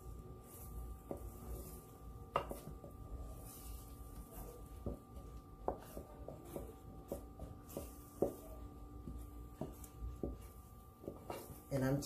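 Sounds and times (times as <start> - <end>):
wooden spoon scraping eggs in pan: 0.0 - 11.8
faint steady hum: 0.0 - 12.0.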